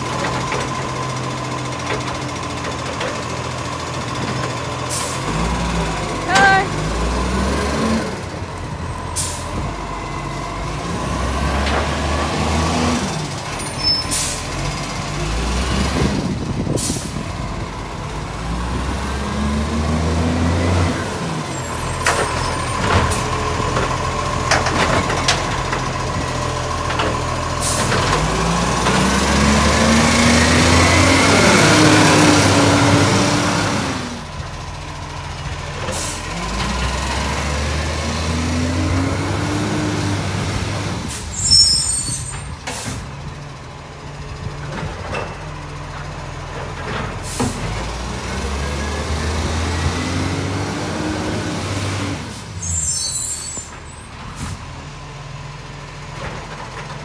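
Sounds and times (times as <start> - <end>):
garbage truck diesel engine revving: 0.0 - 57.0.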